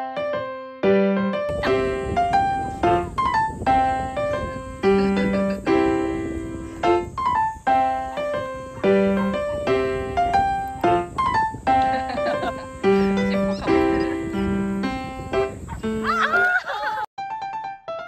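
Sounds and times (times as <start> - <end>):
light piano tune: 0.0 - 16.5, 17.2 - 18.0.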